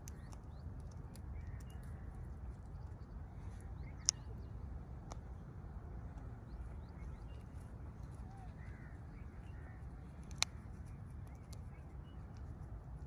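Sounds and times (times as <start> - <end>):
low wind rumble on microphone: 0.0 - 13.0.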